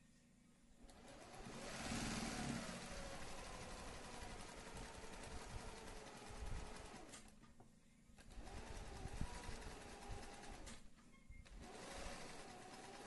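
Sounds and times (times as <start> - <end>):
sewing machine stitching: 0.9 - 7.4, 8.2 - 13.0.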